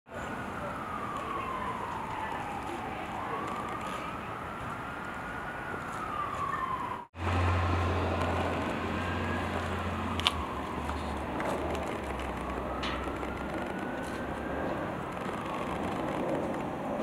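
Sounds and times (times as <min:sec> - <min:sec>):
emergency vehicle siren wailing: 0:00.1 - 0:17.0
street traffic noise: 0:00.1 - 0:17.0.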